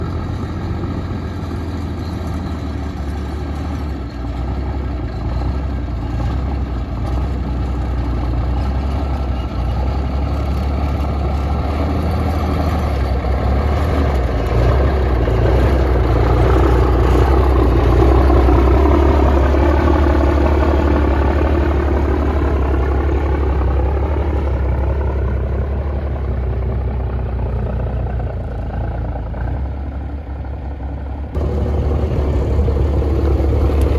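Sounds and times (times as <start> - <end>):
truck diesel engine rumbling: 0.0 - 33.9.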